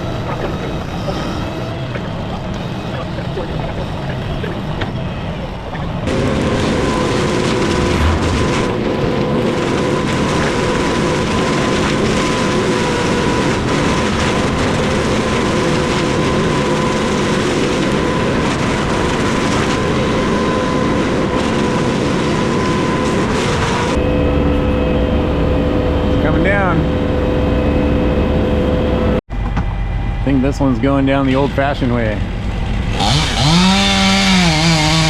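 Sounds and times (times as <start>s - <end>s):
thin steady whine: 0.0s - 11.0s, 11.8s - 32.9s
loud machine noise: 0.0s - 35.0s.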